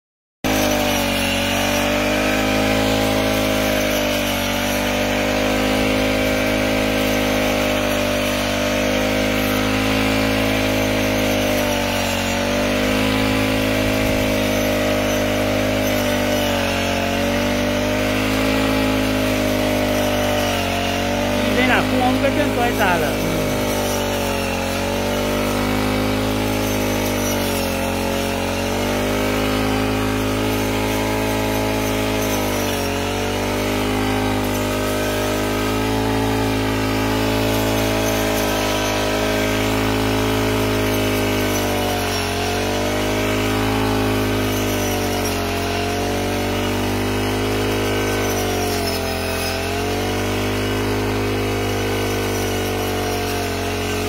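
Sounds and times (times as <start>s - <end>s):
blade cutting grass: 0.4s - 54.0s
brush cutter engine running: 0.5s - 54.0s.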